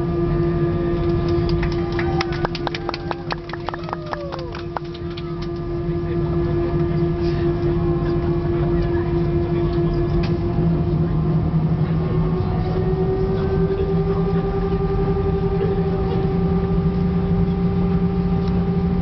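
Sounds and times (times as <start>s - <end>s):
jet engines idling from inside cabin: 0.0s - 19.0s.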